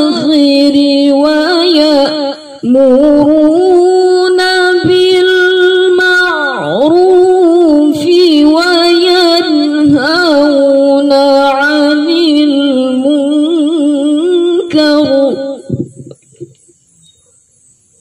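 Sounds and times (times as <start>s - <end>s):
woman reciting melodically: 0.0s - 16.6s.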